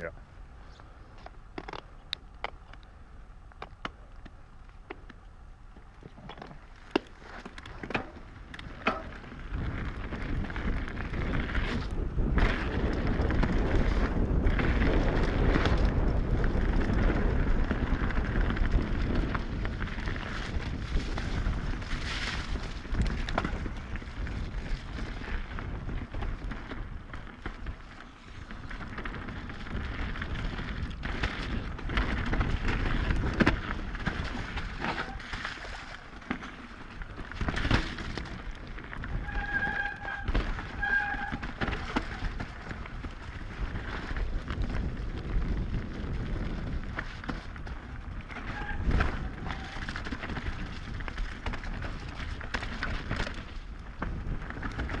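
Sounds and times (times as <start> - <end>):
bike knocking and rattling: 0.8 - 55.0
tyres rushing on dirt: 7.6 - 55.0
wind on microphone: 8.6 - 36.2, 37.1 - 55.0.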